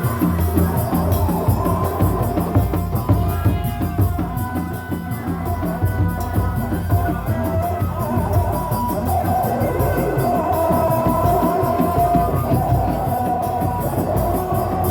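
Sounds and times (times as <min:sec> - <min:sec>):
rapid drumming: 0:00.0 - 0:14.9
wavering sustained melody: 0:00.0 - 0:14.9.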